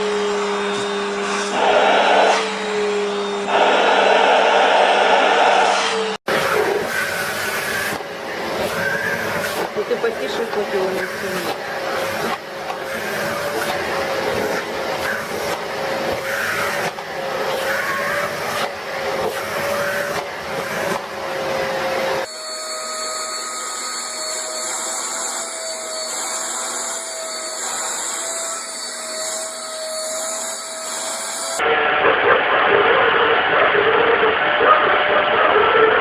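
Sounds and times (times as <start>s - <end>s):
vacuum cleaner whine: 0.0s - 36.0s.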